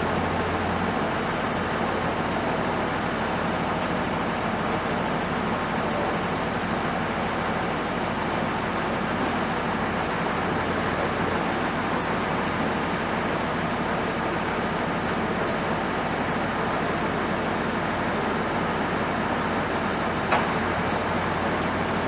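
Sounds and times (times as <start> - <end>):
machinery rumbling: 0.0 - 22.0
traffic rumble: 0.0 - 22.0.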